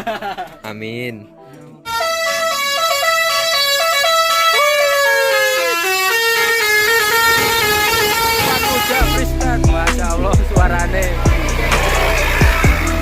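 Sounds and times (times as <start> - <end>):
multi-tone bus horn melody: 1.3 - 9.7, 10.3 - 13.0.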